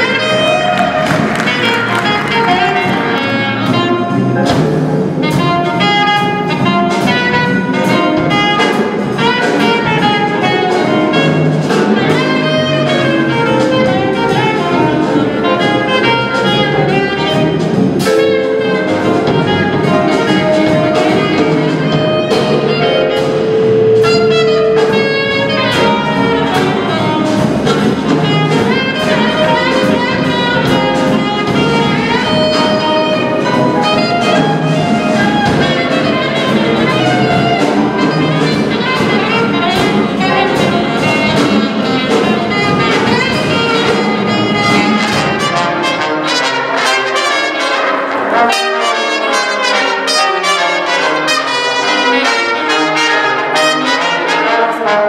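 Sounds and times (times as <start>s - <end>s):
upright bass: 0.0s - 45.9s
alto saxophone: 0.0s - 55.0s
drums: 0.0s - 55.0s
piano: 0.0s - 55.0s
trombone: 0.0s - 55.0s
trumpet: 0.0s - 55.0s.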